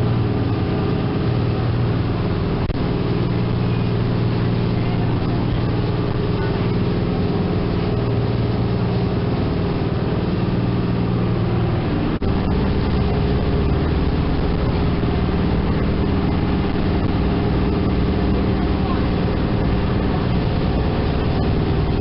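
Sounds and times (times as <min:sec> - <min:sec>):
boat engine droning: 0:00.0 - 0:22.0
wake water rushing: 0:00.0 - 0:22.0.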